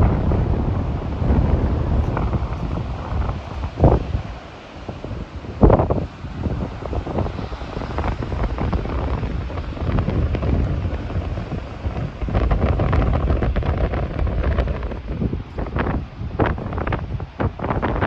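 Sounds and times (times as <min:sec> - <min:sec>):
gusty wind buffeting microphone: 0:00.0 - 0:18.0
surf: 0:00.0 - 0:18.0.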